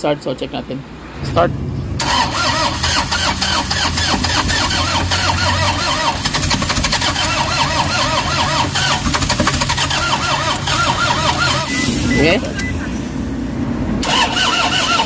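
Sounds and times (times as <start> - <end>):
diesel engine cranking: 1.2 - 15.0.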